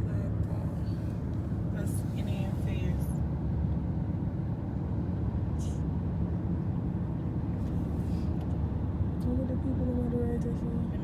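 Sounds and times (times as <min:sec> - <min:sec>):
car road rumble inside cabin: 0:00.0 - 0:04.1, 0:04.7 - 0:11.0.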